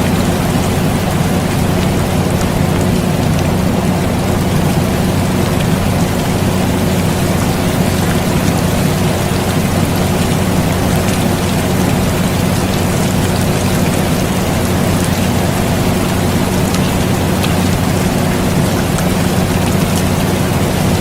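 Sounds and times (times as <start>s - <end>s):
air conditioner hum: 0.0s - 21.0s
drops ticking: 0.0s - 21.0s
steady rain: 0.0s - 21.0s.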